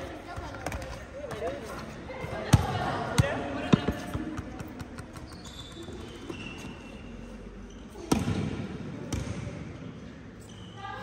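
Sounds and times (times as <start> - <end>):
ball bouncing on hall floor: 0.0 - 7.1, 7.9 - 9.7.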